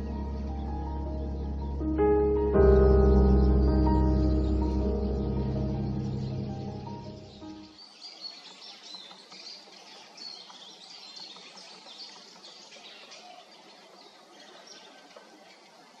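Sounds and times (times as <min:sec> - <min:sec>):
small songbirds chirping: 0:00.0 - 0:16.0.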